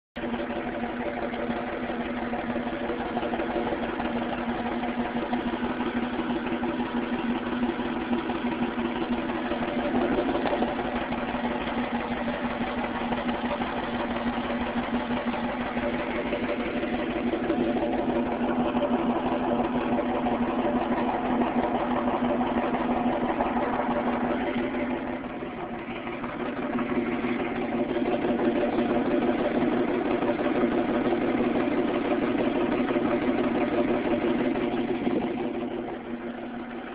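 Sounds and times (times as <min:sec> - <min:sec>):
car engine idling with misfire: 0:00.2 - 0:36.9.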